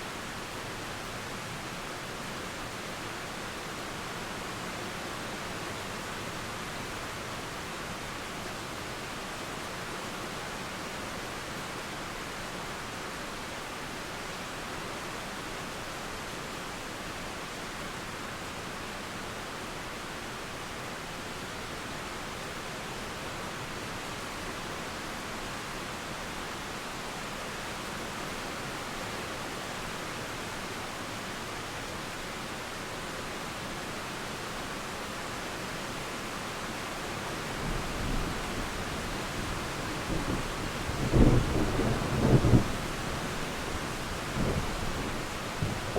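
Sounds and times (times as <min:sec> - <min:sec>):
flowing river: 0:00.0 - 0:45.9
steady rain: 0:00.0 - 0:45.9.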